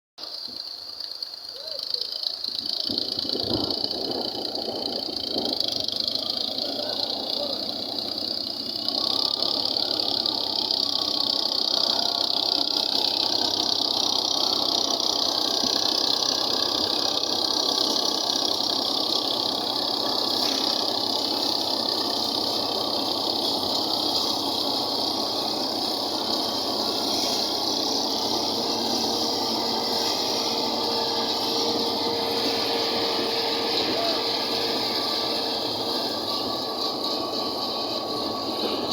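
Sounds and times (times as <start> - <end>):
tractor running steadily: 0.2 - 38.9.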